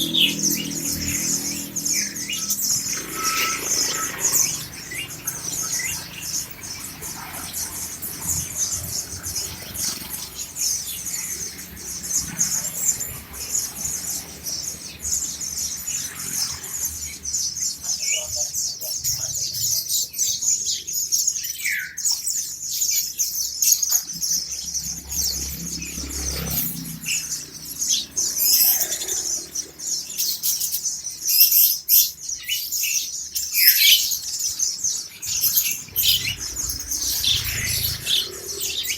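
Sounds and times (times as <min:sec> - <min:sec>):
birds twittering in chorus: 0:00.0 - 0:38.9.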